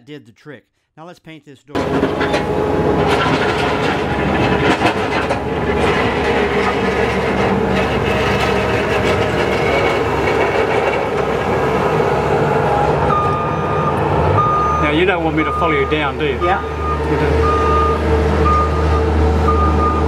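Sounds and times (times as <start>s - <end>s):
road works machinery rumbling: 1.8s - 20.0s.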